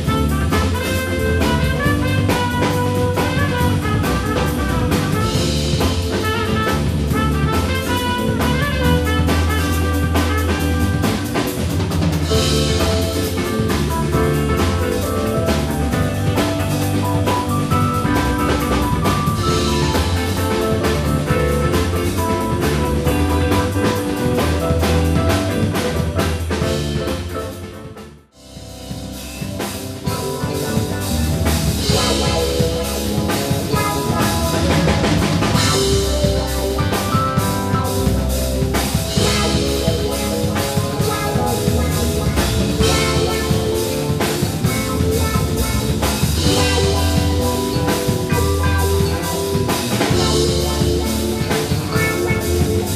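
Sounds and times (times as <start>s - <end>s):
drum kit beat: 0.0s - 52.9s
live band playing: 0.0s - 52.9s.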